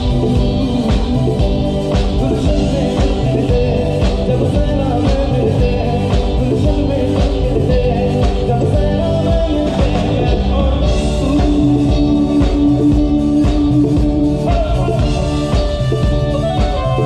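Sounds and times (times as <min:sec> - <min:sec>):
drum kit beat: 0:00.0 - 0:17.0
electric bass guitar: 0:00.0 - 0:17.0
electric guitar: 0:00.0 - 0:17.0.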